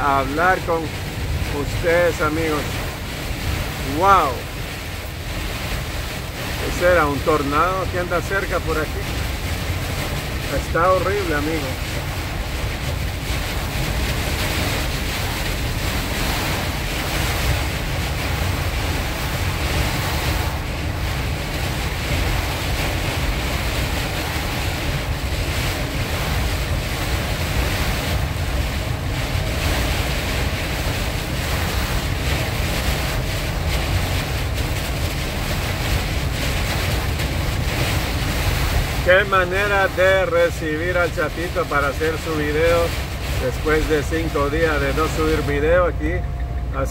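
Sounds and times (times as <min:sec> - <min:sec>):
heavy rain on car roof: 0:00.0 - 0:46.9
wind: 0:00.0 - 0:46.9.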